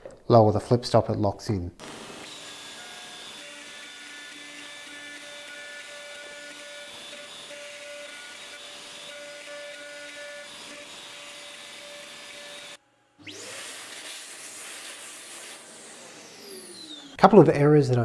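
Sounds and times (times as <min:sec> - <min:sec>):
router whine: 0:01.8 - 0:17.2.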